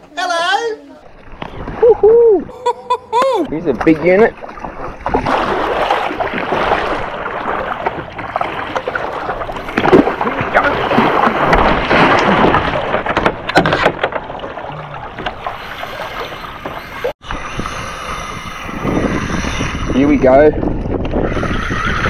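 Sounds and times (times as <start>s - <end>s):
paddle blades splashing: 0.1s - 20.3s
water washing against hull: 1.0s - 21.7s.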